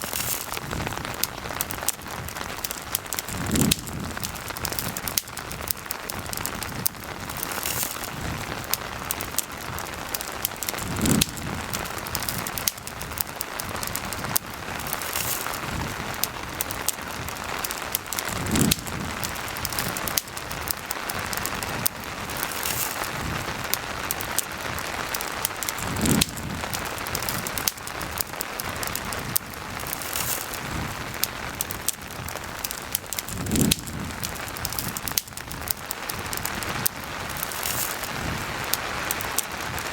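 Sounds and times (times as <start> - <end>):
campfire crackling: 0.0 - 39.9
rain hiss: 0.0 - 39.9.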